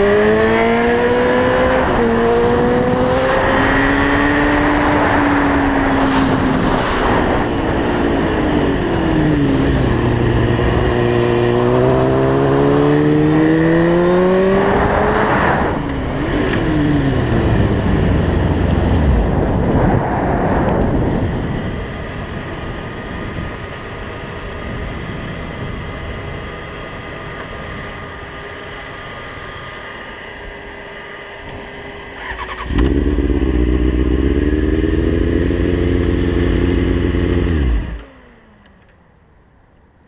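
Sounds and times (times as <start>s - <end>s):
motorcycle engine accelerating: 0.0s - 39.1s.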